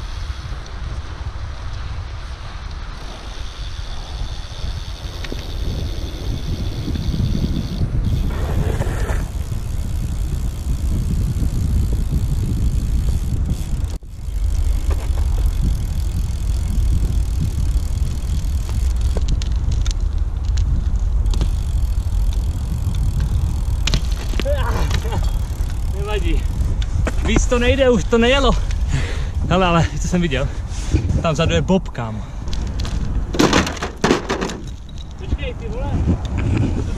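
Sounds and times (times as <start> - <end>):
tyres rolling on asphalt: 0.0 - 31.2
wind on microphone: 0.0 - 36.9.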